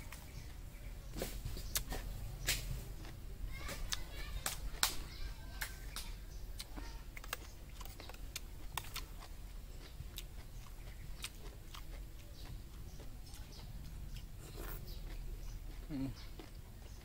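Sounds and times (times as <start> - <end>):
chewing mouth noises: 0.0 - 4.1, 6.6 - 17.0
low steady rumble: 0.0 - 16.8.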